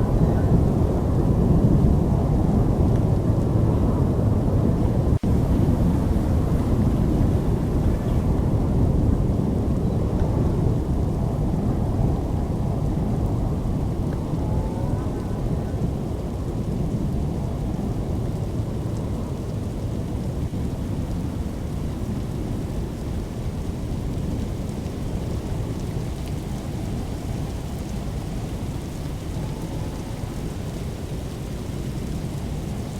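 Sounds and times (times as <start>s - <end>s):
low thunder rumble: 0.0s - 32.9s
rain: 0.0s - 32.9s.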